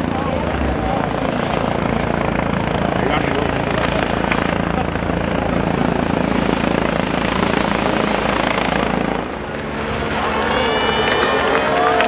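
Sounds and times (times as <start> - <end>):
helicopter rotor and turbine: 0.0 - 12.0.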